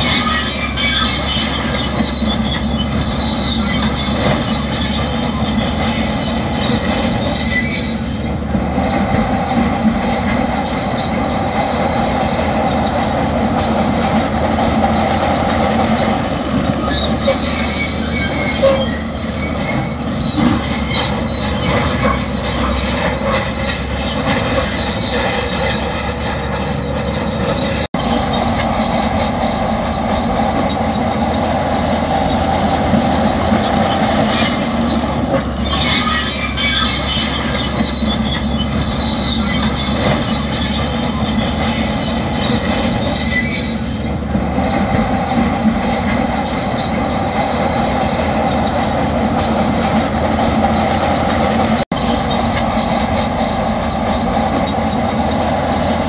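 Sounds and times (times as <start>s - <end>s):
bulldozer diesel engine running: 0.0s - 56.0s
steel tracks squealing and clanking: 0.0s - 56.0s.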